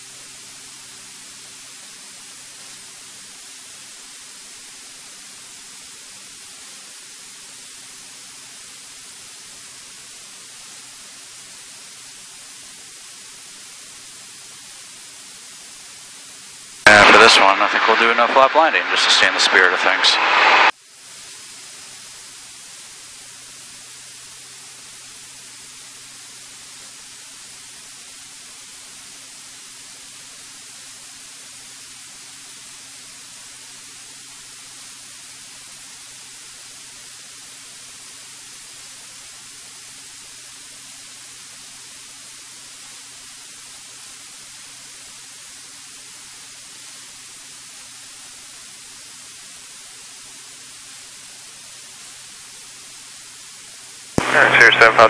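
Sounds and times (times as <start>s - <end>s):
cockpit audio hiss: 0.0s - 55.0s.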